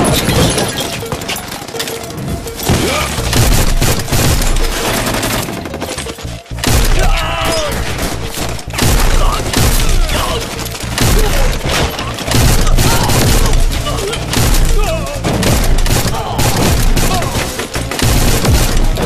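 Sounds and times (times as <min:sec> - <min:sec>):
rapid gunfire volleys: 0:00.0 - 0:19.0.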